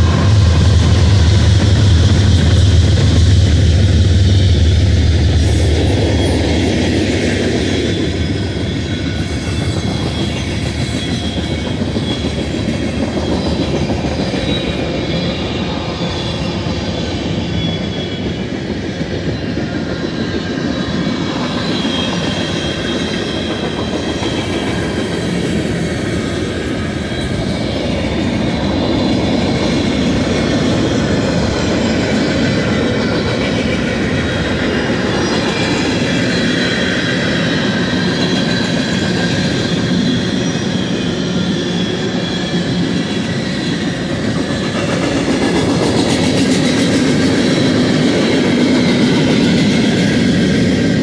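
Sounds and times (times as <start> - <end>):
locomotive engine hum: 0.0 - 51.0
steel wheels clattering on rails: 0.0 - 51.0
faint wheel squeal: 5.4 - 51.0.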